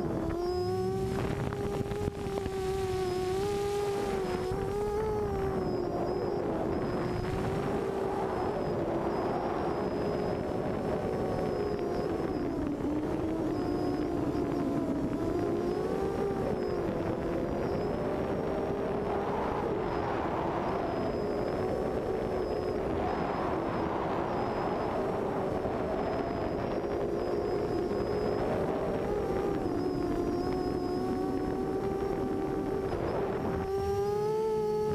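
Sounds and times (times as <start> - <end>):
drone motors whining: 0.0 - 34.9.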